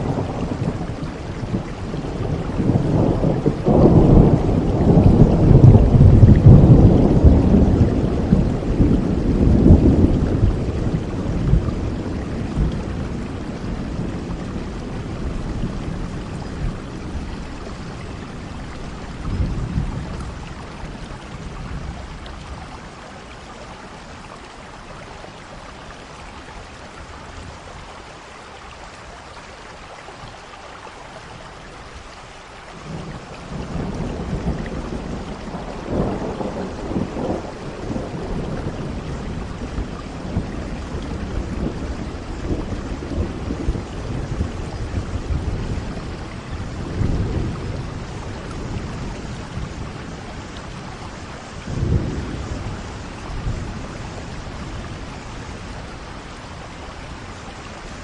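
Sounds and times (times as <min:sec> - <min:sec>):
rolling thunder: 0:00.0 - 0:23.0, 0:32.8 - 0:58.0
steady rain: 0:00.0 - 0:58.0.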